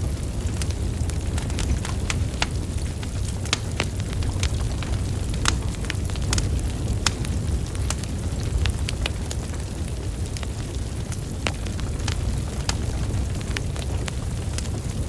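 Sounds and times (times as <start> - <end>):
crackles and pops of logs: 0.0 - 15.0
rumble of fire flames: 0.0 - 15.0.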